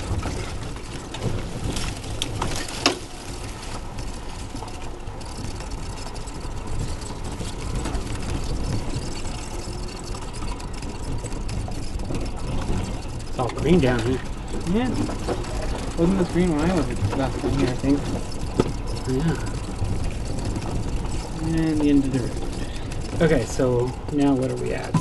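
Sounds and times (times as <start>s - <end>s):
rattles and knocks: 0.0s - 25.0s
vehicle tyres rumbling on dirt trail: 0.0s - 25.0s.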